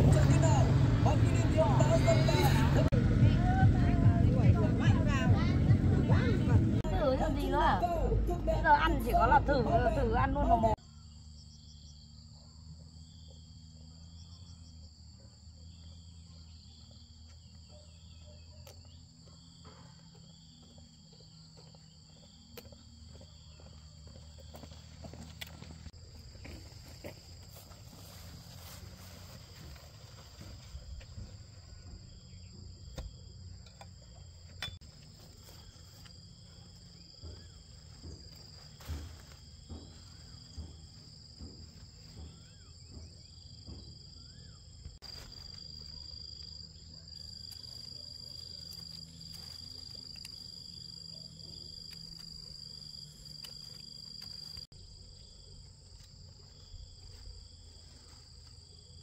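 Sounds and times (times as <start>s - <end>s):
insect chirping pulses: 10.0s - 59.0s
insect high-pitched drone: 10.7s - 59.0s.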